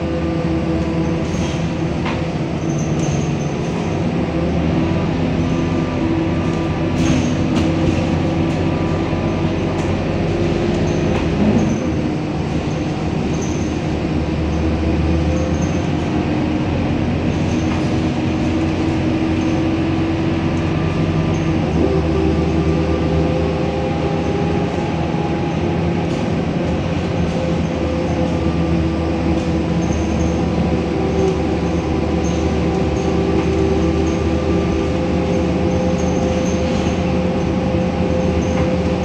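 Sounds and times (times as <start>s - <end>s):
diesel bus engine running: 0.0s - 39.0s
road and driveline noise: 0.0s - 39.0s.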